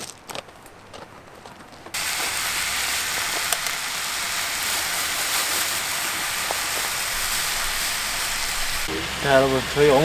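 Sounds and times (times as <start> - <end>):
small crackles: 0.0 - 8.8
meat sizzling on griddle: 2.0 - 10.0.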